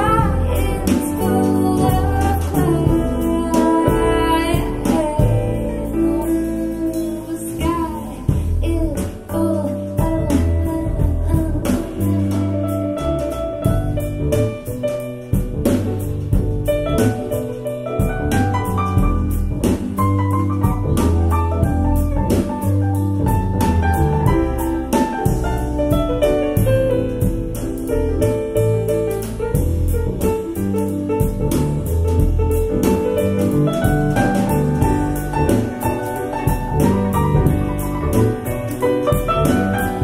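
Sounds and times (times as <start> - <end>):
steady drum beat: 0.0 - 7.1, 8.2 - 40.0
deep bass line: 0.0 - 40.0
jazz piano: 0.0 - 40.0.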